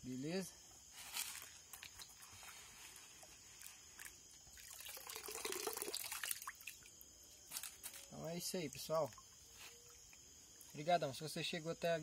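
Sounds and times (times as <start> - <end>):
water splashing and trickling: 1.0 - 10.9.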